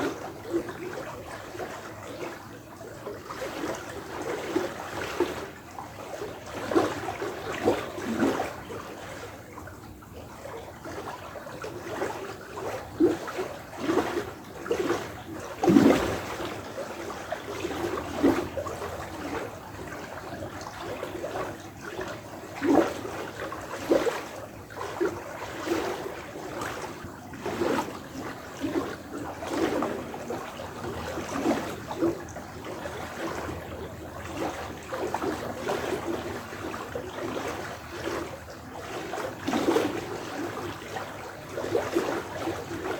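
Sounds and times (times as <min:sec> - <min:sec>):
hollow resonant water plops: 0:00.0 - 0:42.9
stream water trickling: 0:00.0 - 0:42.9.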